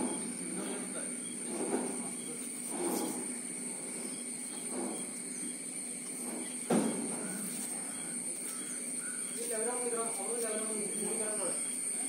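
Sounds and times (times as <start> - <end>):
high-pitched insect buzzing: 0.1 - 12.0.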